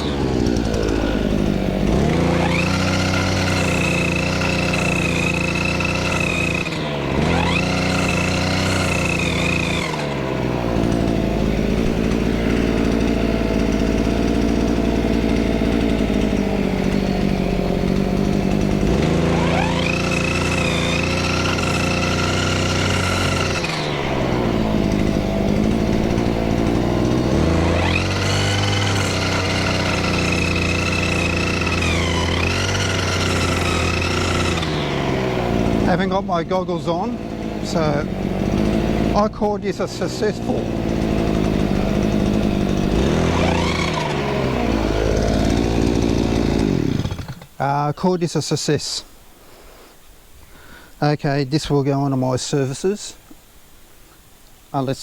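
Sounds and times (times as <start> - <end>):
brushcutter engine revving: 0.0 - 49.0.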